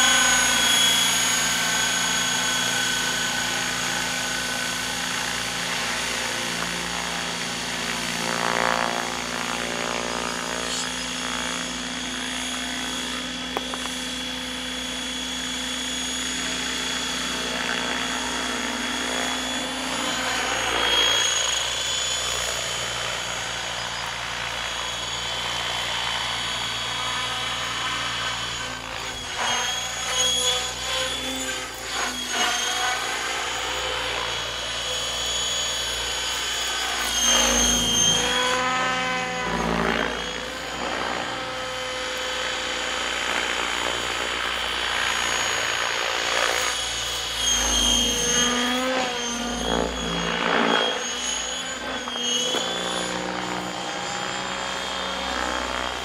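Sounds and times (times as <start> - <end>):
model helicopter motor whine: 0.0 - 56.0.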